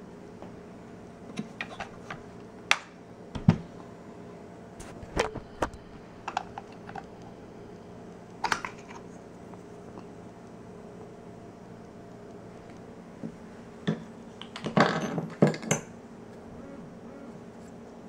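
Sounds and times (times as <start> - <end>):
steady low hum: 0.0 - 14.4, 15.9 - 18.0.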